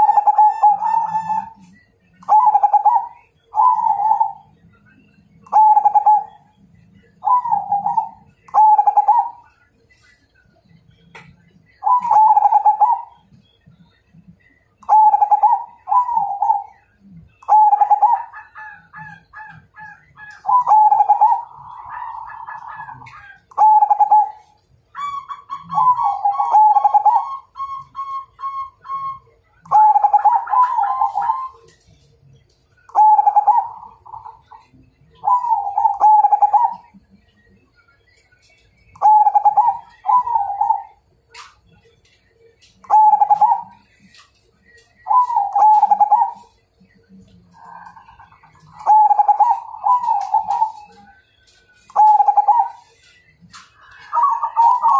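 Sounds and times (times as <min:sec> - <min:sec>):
dove cooing: 0:00.0 - 0:04.6, 0:05.5 - 0:10.0, 0:11.8 - 0:13.4, 0:14.9 - 0:31.9, 0:32.9 - 0:37.2, 0:39.0 - 0:54.9.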